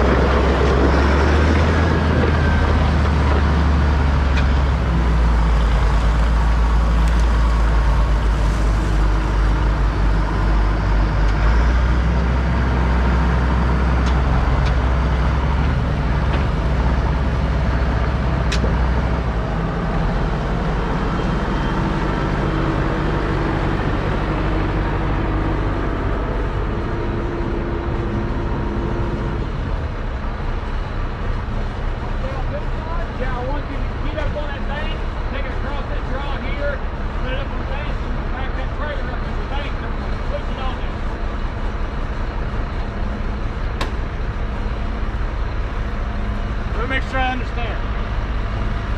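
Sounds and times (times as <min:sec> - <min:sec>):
tractor diesel engine drone: 0:00.0 - 0:48.9.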